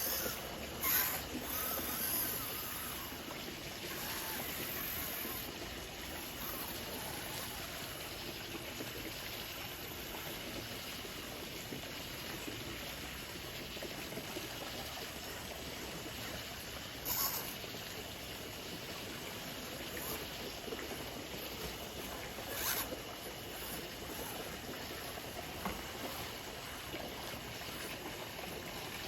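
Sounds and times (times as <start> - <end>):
stream water splashing: 0.0 - 29.0.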